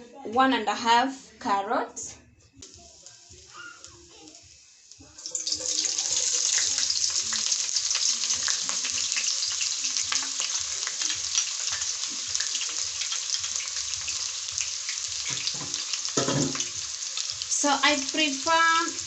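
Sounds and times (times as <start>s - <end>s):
onions sizzling in hot oil: 2.6s - 19.0s.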